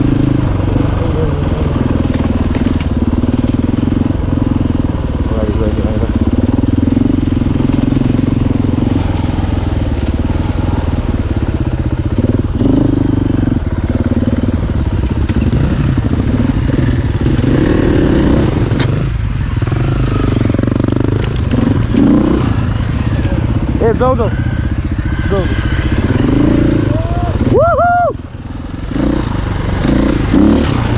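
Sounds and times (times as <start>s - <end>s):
dirt bike engine running: 0.0s - 30.9s.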